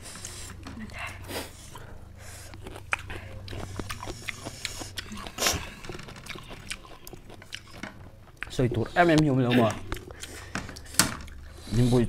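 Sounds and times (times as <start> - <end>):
biting and chewing lemon: 0.0 - 11.9
wet mouth clicks: 1.7 - 11.4.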